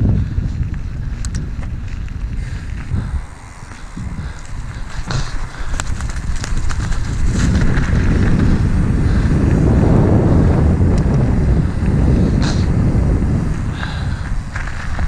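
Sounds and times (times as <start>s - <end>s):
wind buffeting microphone: 0.0s - 15.0s
faint bike clicks: 0.3s - 15.0s
tyres rumbling on asphalt: 0.6s - 15.0s.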